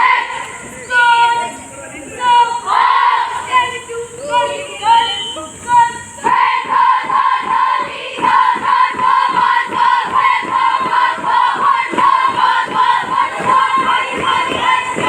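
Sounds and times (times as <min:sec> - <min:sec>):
group chanting rhythmically: 0:00.0 - 0:01.4, 0:02.2 - 0:15.0
voices calling out: 0:00.0 - 0:15.0.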